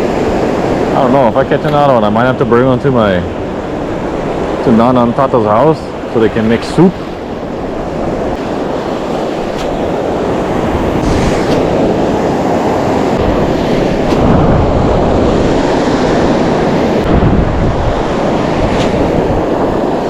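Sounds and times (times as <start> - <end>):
surf washing on shore: 0.0 - 20.0
wind buffeting microphone: 0.0 - 20.0.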